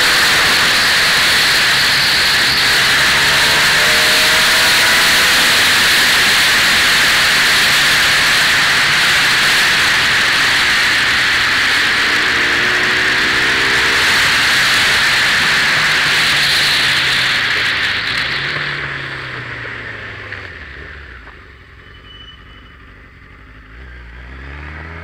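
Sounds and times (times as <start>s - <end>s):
faint motorcycle engine: 0.0s - 25.0s.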